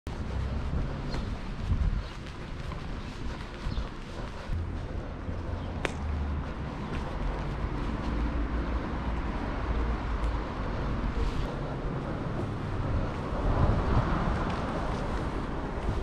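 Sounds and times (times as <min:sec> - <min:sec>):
traffic rumble: 0:00.1 - 0:16.0
wind buffeting microphone: 0:00.1 - 0:16.0.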